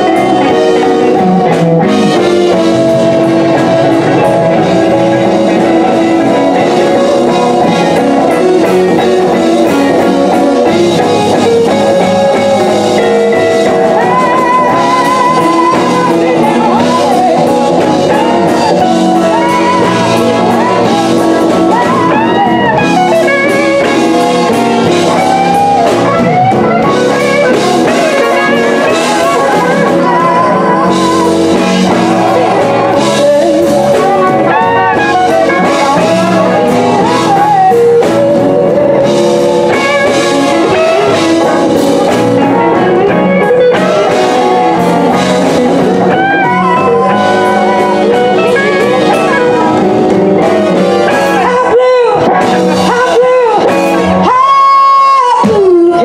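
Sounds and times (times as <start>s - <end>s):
lead guitar bending: 0.0s - 56.0s
live blues band: 0.0s - 56.0s.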